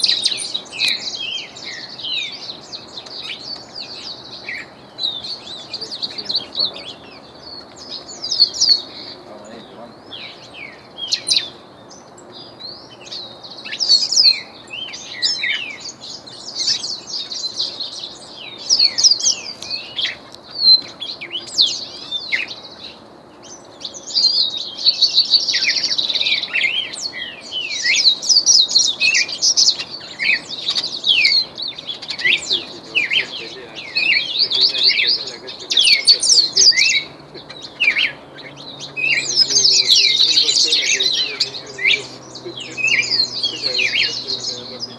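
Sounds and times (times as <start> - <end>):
songbirds chirping and whistling: 0.0 - 44.9.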